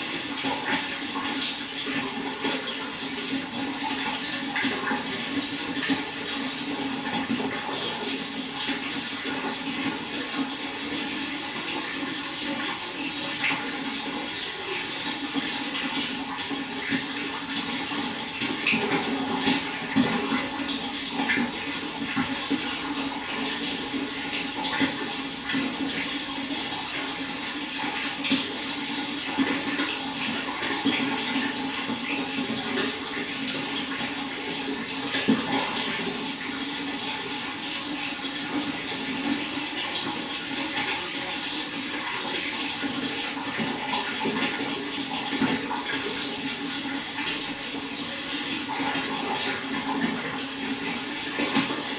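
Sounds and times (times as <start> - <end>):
running water splashing: 0.0 - 51.9.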